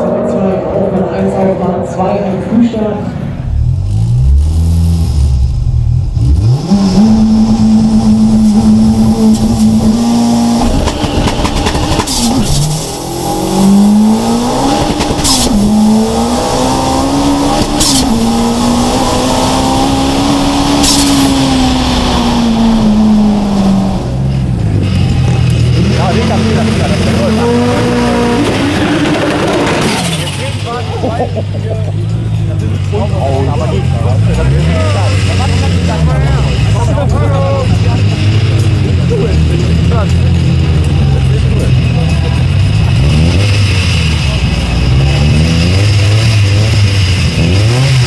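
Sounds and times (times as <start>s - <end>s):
turbocharged car engine revving: 0.0s - 48.0s.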